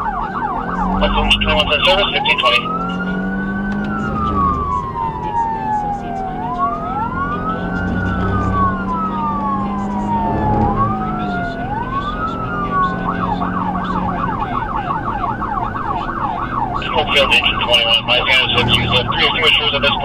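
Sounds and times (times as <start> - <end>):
electronic siren wailing and yelping: 0.0 - 20.0.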